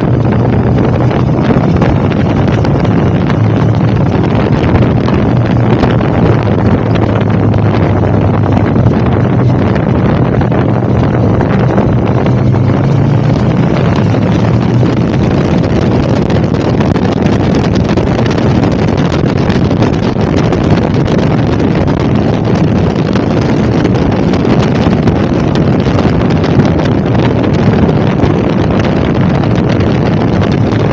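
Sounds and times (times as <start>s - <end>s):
motorcycle engine low drone: 0.0s - 30.9s
wind rushing over microphone: 0.0s - 30.9s.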